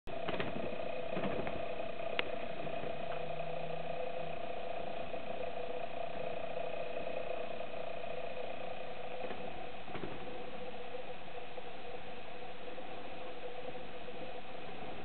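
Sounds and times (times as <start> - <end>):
steady mechanical buzz: 0.1 - 15.0.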